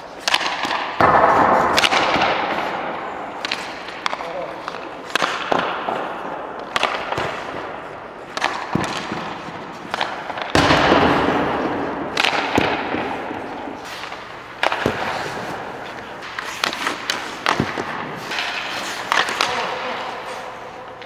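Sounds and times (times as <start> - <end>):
hockey pucks cracking off sticks: 0.0 - 21.0.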